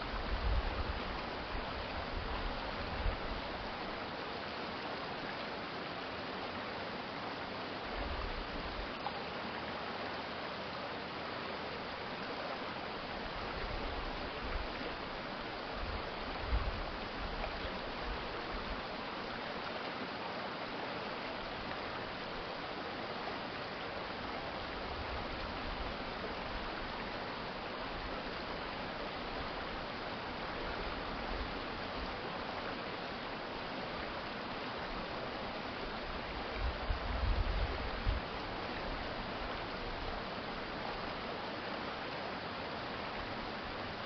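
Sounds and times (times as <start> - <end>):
stream water rushing: 0.0 - 44.0.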